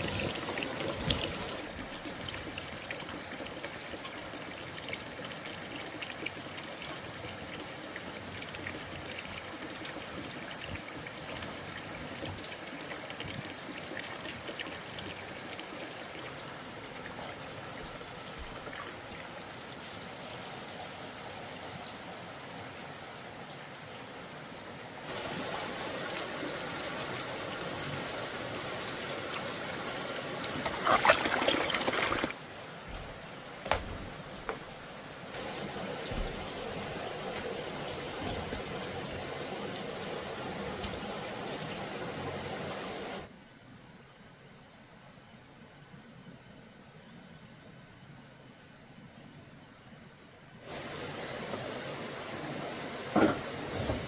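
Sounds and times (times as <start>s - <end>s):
water trickling and splashing: 0.0s - 43.3s, 50.6s - 54.0s.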